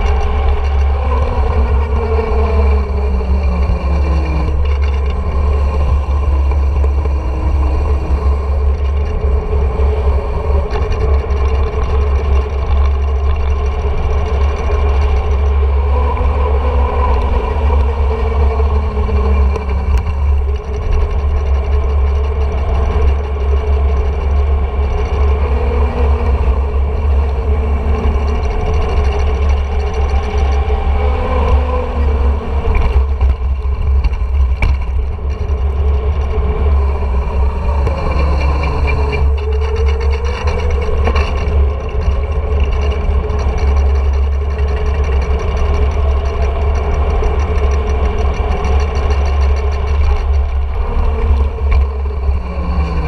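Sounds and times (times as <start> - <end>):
bike tyres rolling hum: 0.0 - 53.0
wind rumble on microphone: 0.0 - 53.0.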